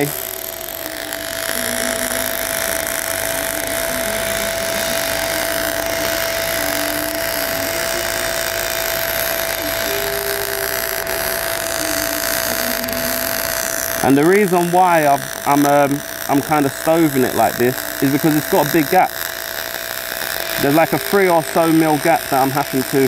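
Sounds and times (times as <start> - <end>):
thin steady whine: 0.0 - 23.0
welding arc crackling hiss: 0.0 - 23.0.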